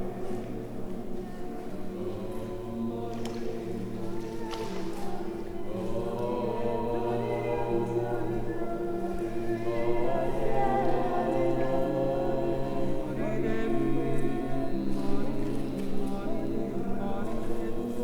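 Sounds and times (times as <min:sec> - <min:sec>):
group of voices singing: 0:00.0 - 0:18.0.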